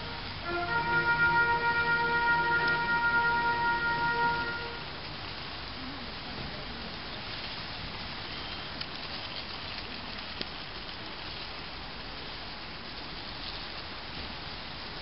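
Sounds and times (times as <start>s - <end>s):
rain hissing on pavement: 0.0s - 15.0s.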